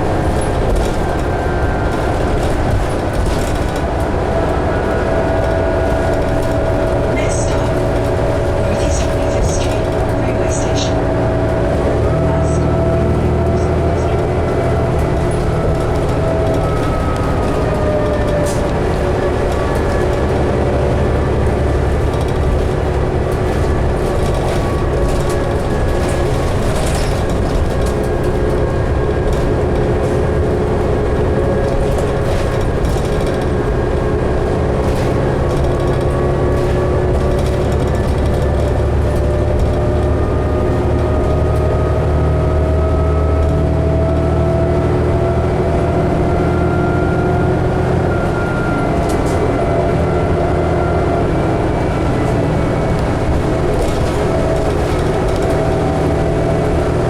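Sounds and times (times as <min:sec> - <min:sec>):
bus engine drone with whine: 0:00.0 - 0:57.0.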